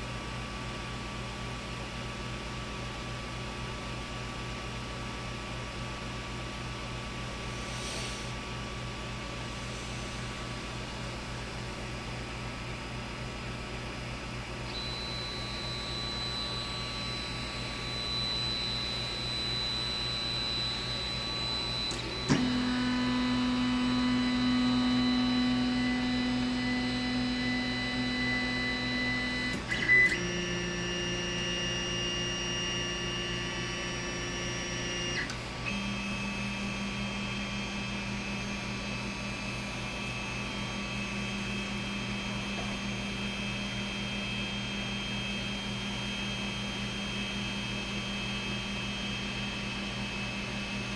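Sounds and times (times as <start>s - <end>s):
fans humming: 6.4s - 50.9s.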